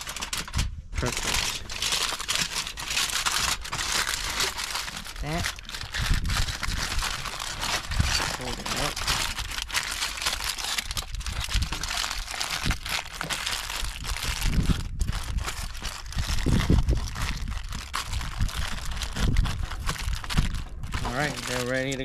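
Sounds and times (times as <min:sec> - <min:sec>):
aluminium foil crinkling: 0:00.0 - 0:22.0.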